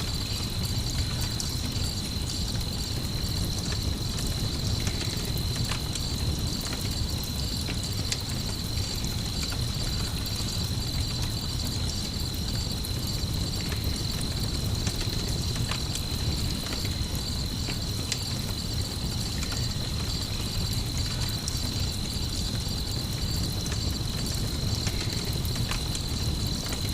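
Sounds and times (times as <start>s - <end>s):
campfire crackling: 0.0s - 26.9s
crickets chirping: 0.0s - 26.9s.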